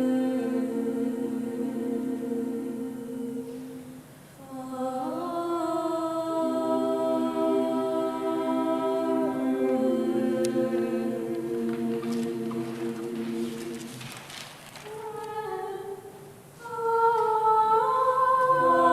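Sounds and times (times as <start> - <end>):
choir singing held chords: 0.0 - 14.2, 14.8 - 18.9.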